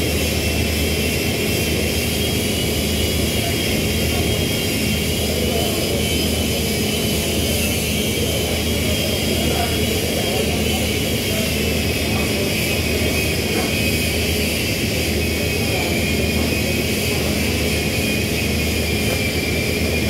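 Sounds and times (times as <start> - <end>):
loud machine roar: 0.0 - 20.0.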